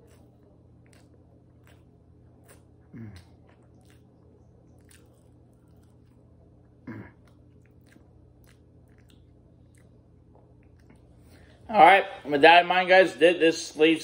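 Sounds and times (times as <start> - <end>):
man chewing food: 0.0 - 11.7.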